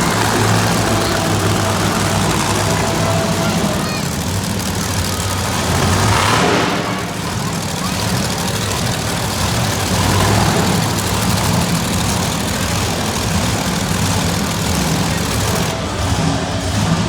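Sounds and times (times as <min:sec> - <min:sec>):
arena noise: 0:00.0 - 0:17.0
monster truck engine running: 0:00.0 - 0:17.0.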